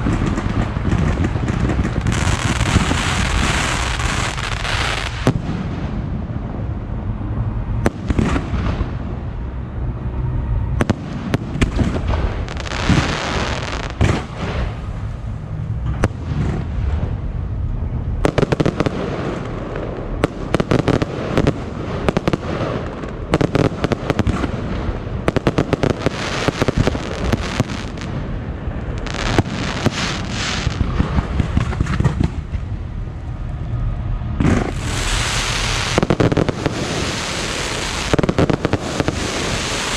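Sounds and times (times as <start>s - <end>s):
fireworks bangs and crackling: 0.0s - 7.0s, 7.8s - 9.4s, 10.7s - 39.9s
low rumble: 0.0s - 39.9s.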